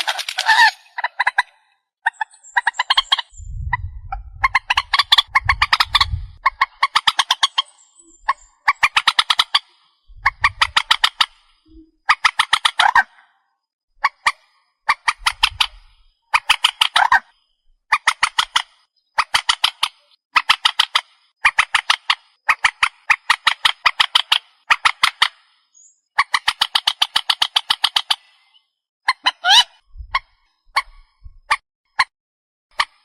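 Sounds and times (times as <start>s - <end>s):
recorded bird calls: 0.0s - 32.1s.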